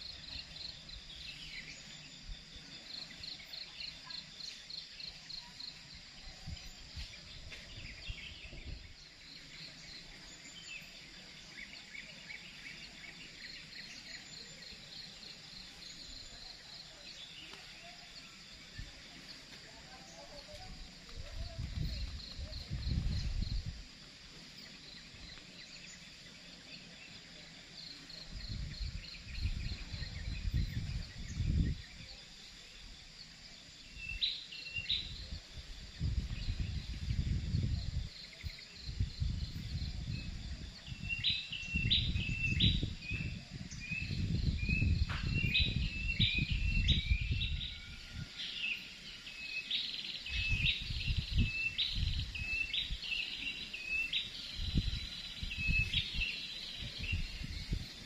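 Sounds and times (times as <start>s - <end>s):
faint insect drone: 0.0s - 58.0s.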